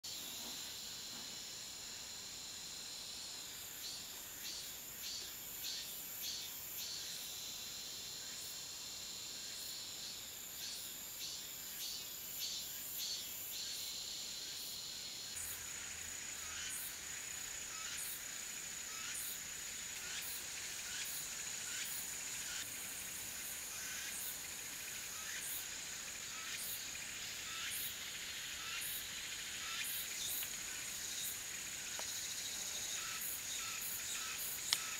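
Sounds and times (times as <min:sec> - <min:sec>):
insect chirps: 0:00.0 - 0:34.9
insects trilling: 0:00.0 - 0:34.9.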